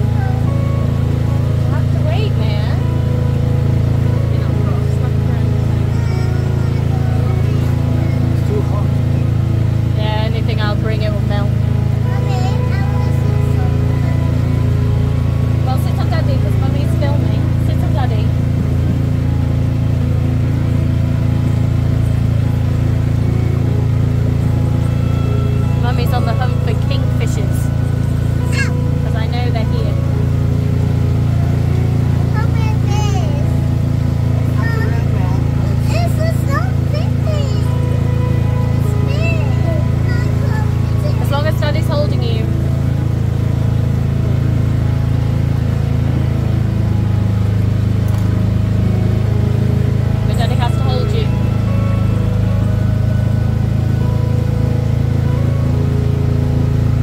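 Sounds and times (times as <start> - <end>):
motorboat engine humming: 0.0 - 57.0.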